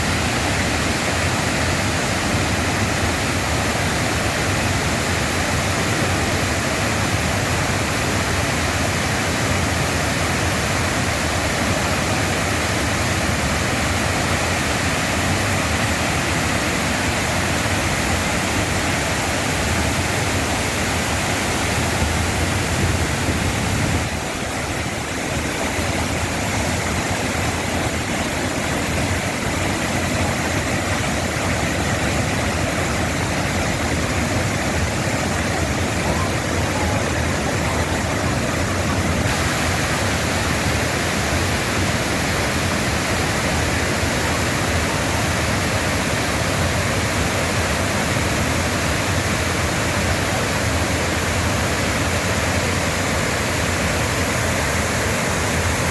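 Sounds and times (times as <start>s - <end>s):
waterfall pouring: 3.1s - 55.9s.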